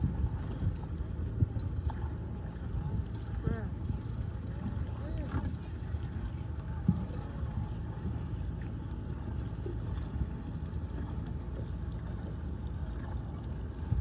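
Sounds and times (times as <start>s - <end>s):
boat engines rumbling: 0.0s - 14.0s
wind buffeting microphone: 0.0s - 14.0s.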